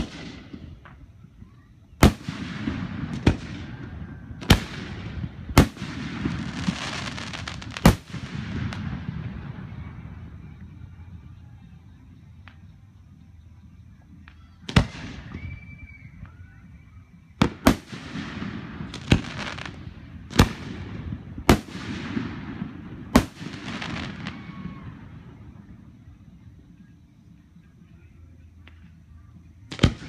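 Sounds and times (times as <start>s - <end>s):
fireworks bursting with echo: 0.0s - 13.2s, 13.8s - 30.0s.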